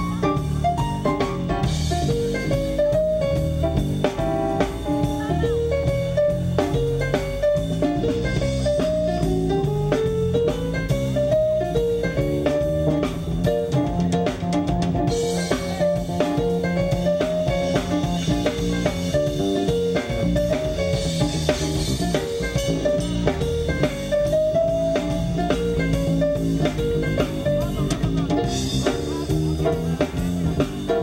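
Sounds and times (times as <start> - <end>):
bass and drum groove: 0.0 - 31.0
instrumental blues trio: 0.0 - 31.0
melodic lead line: 0.0 - 31.0.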